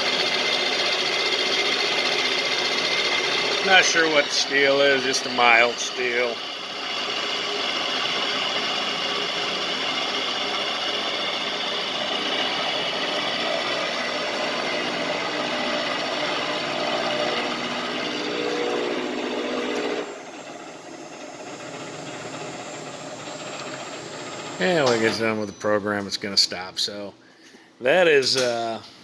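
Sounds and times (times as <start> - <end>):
machine running: 0.0 - 25.3
milling machine cutting steel: 0.0 - 25.3.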